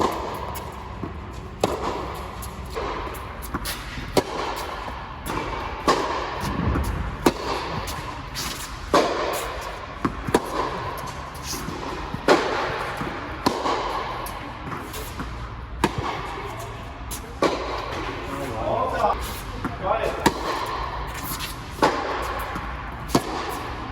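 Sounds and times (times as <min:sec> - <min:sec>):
tennis ball struck by racquet: 0:00.0 - 0:16.5, 0:17.1 - 0:18.4, 0:19.0 - 0:23.8
tennis ball bouncing on court: 0:00.0 - 0:18.4, 0:19.0 - 0:23.8.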